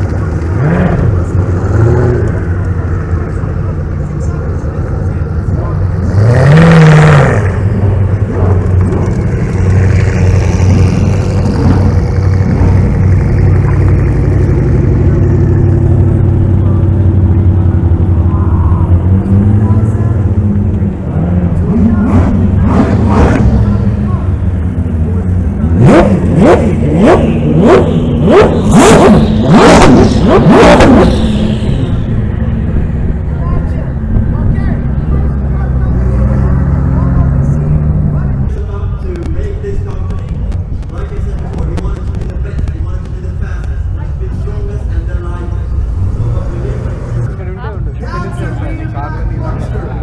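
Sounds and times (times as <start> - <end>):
car engine revving: 0.0 - 50.0
car engines running at low speed: 0.0 - 50.0.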